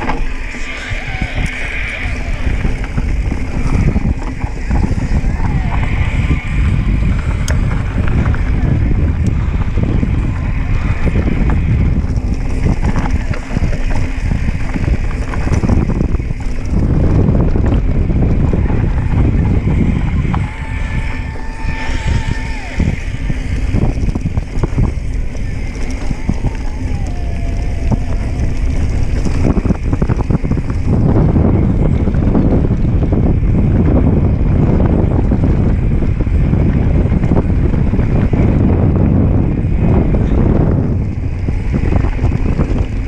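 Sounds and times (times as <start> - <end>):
bike rattling on dirt trail: 0.0 - 43.0
wind buffeting microphone: 0.0 - 43.0.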